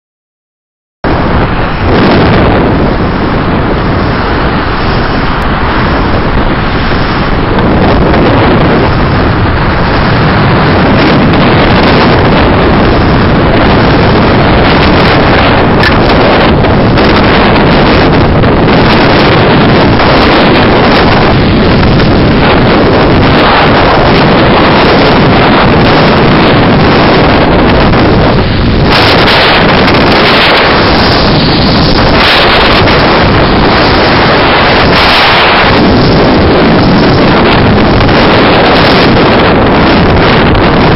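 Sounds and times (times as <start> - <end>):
heavy surf on rocky shore: 1.0 - 40.9
storm wind on microphone: 1.0 - 40.9.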